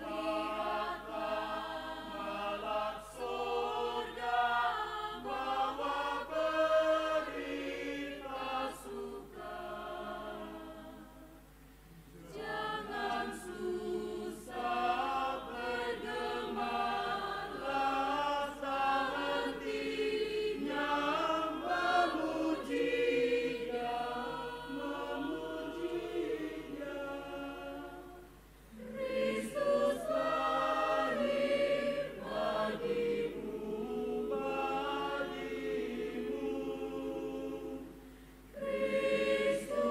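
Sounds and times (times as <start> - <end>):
mixed choir singing: 0.0 - 11.4, 12.1 - 39.9.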